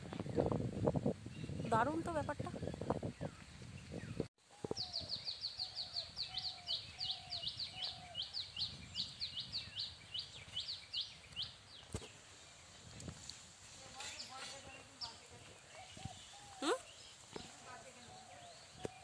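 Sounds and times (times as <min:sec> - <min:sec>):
fainter lower bird calls: 0:01.3 - 0:12.8, 0:14.0 - 0:19.0.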